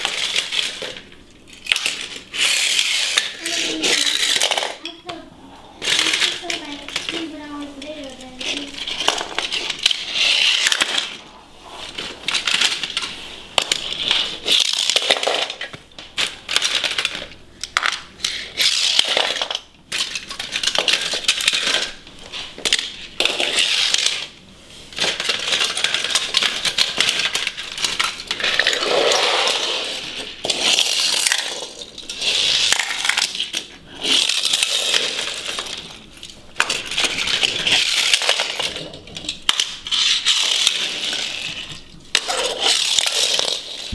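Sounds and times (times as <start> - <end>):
toy cars rolling on hard floor: 0.0 - 43.9.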